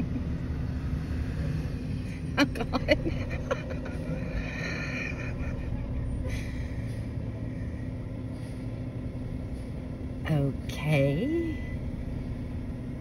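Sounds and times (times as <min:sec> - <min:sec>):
garbage truck engine rumble: 0:00.0 - 0:13.0.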